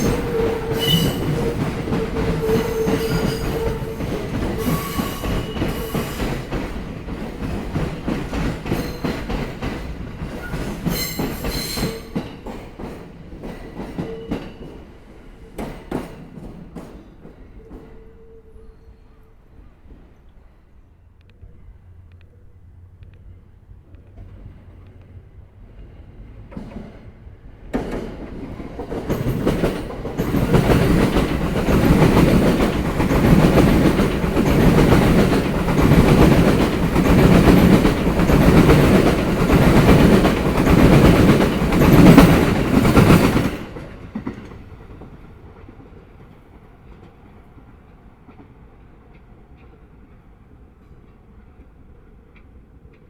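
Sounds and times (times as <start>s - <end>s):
train wheels clickety-clack: 0.0s - 18.2s, 23.9s - 53.0s.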